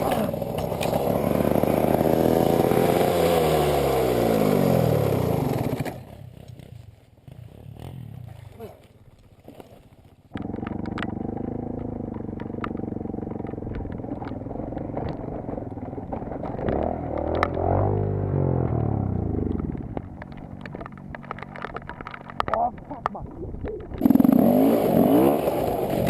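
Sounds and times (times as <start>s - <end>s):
motocross bike engine revving: 0.0s - 8.6s, 10.3s - 21.5s, 24.0s - 26.0s.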